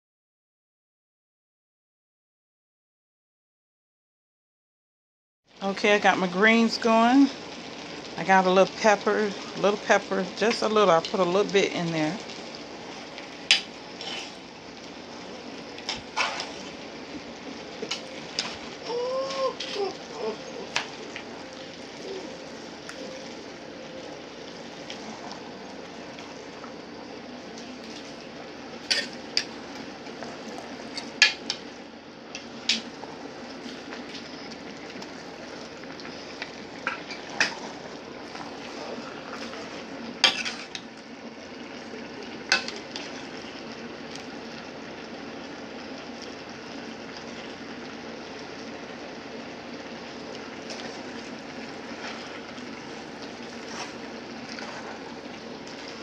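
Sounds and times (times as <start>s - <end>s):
pot simmering hiss: 5.5s - 56.0s.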